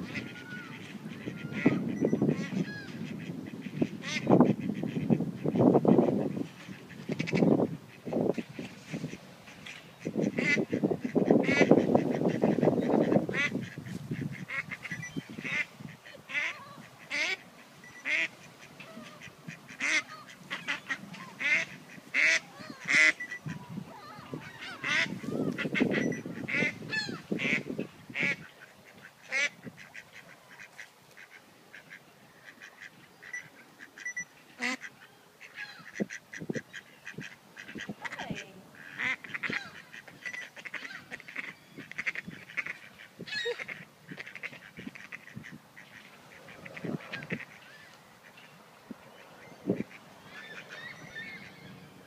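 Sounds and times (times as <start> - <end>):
ducks quacking: 0.0 - 52.0.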